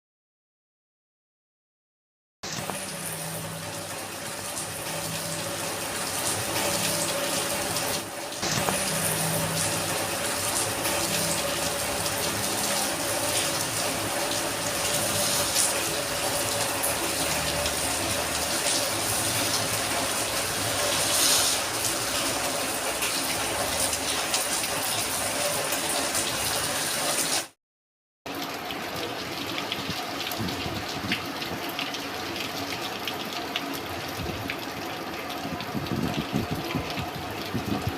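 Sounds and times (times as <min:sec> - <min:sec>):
rain pattering on hard surfaces: 0:02.5 - 0:27.6, 0:28.3 - 0:37.9.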